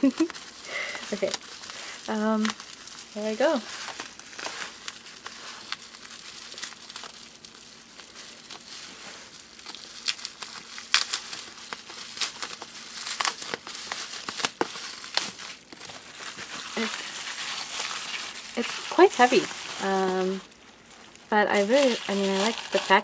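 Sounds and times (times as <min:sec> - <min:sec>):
bubble wrap crinkling: 0:00.0 - 0:23.0
bubble wrap snapping: 0:00.0 - 0:23.0.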